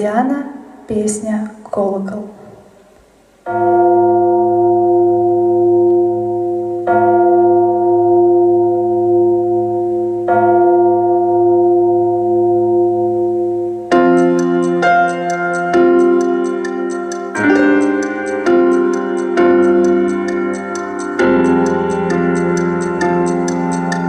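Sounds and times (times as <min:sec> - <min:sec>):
deep bell tone: 0:03.5 - 0:24.0.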